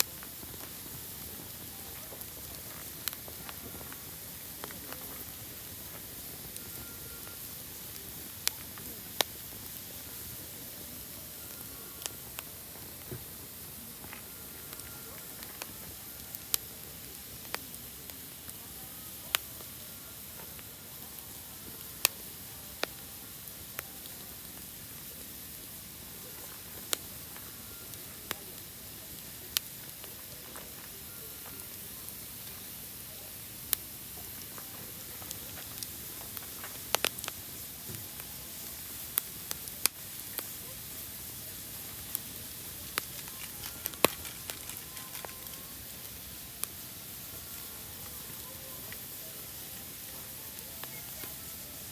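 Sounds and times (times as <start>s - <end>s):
campfire hissing: 0.0s - 51.9s
fire crackling pops: 0.0s - 51.9s.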